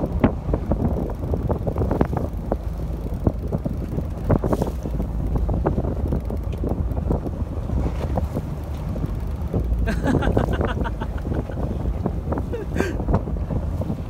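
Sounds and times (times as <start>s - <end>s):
steady low rumble: 0.0s - 14.0s
wind buffeting microphone: 0.0s - 14.0s.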